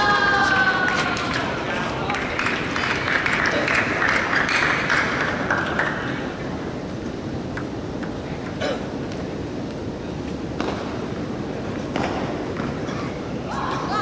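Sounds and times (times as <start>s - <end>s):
loud hall noise: 0.0s - 14.0s.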